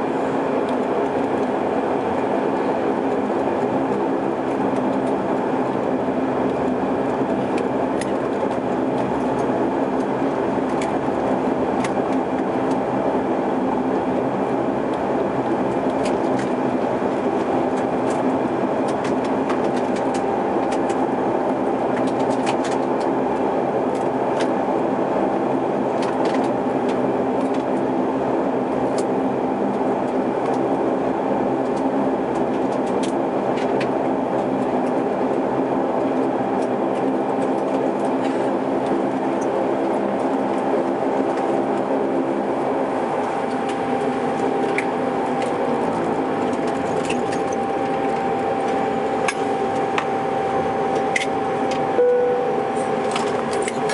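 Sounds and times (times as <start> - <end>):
turboprop engine drone: 0.0 - 53.9.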